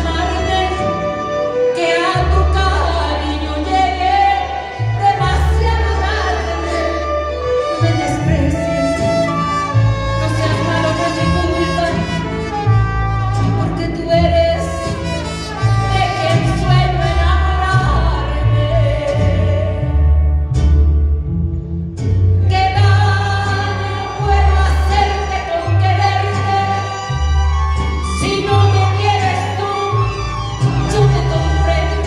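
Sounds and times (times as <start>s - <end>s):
band playing a ballad: 0.0s - 32.0s
bass line: 0.0s - 32.0s
violins: 0.0s - 32.0s.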